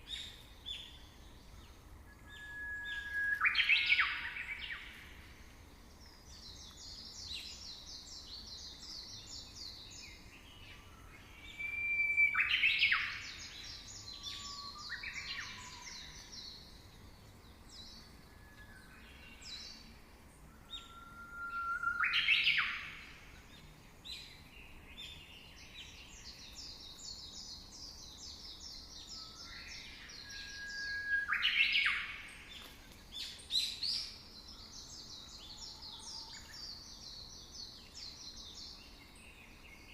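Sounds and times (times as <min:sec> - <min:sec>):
bird song with whistle and trill: 0:00.0 - 0:05.4, 0:06.0 - 0:39.9.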